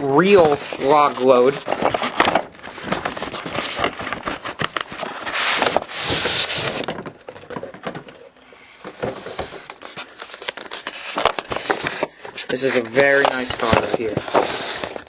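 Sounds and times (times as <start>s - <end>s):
box scraping: 0.0s - 7.7s, 8.7s - 15.0s
packaging rustling: 0.0s - 15.0s.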